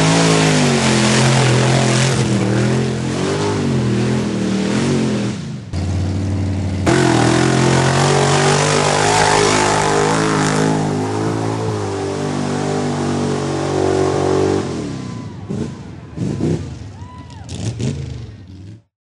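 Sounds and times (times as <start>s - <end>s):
steady loud engine note: 0.0s - 16.8s
truck engines revving: 0.0s - 18.9s.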